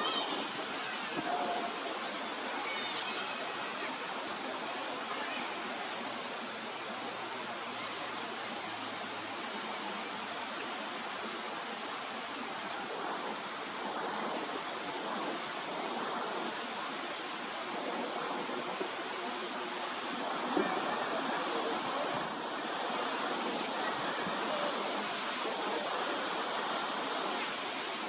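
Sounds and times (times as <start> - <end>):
steady rushing noise: 3.6 - 28.0.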